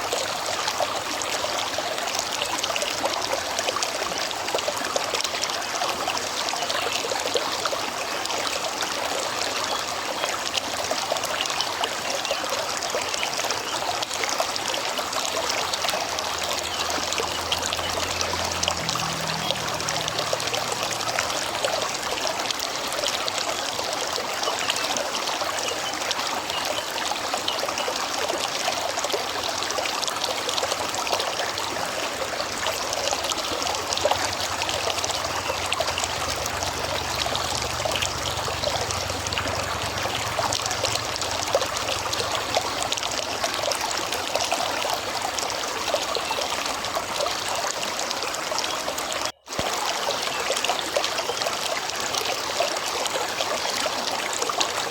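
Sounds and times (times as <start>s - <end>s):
river babbling over stones: 0.0s - 54.9s.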